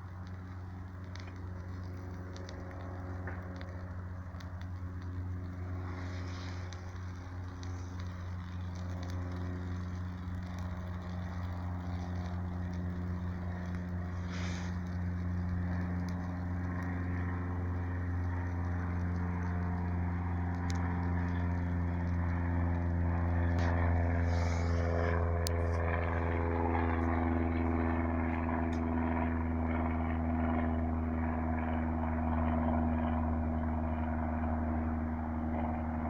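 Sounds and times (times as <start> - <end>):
engine running steadily: 0.0 - 36.0.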